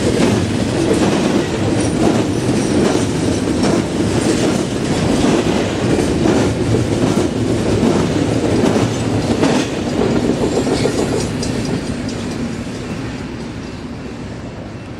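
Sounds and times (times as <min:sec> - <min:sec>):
wheels clicking over rail joints: 0:00.0 - 0:14.2
train cars rolling past: 0:00.0 - 0:14.9.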